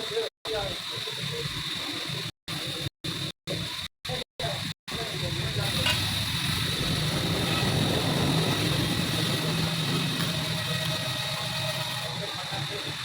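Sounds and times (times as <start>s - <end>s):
machine running with low hum: 0.0s - 13.0s.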